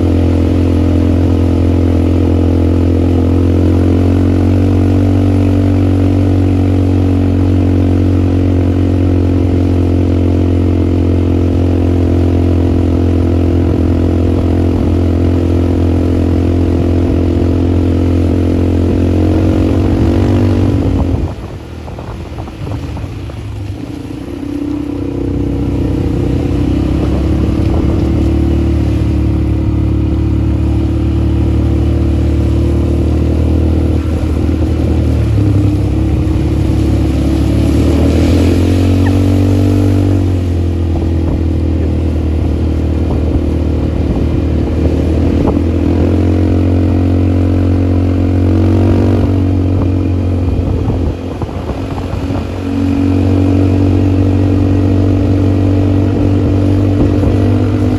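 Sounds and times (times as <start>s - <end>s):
atv engine running: 0.0s - 57.9s.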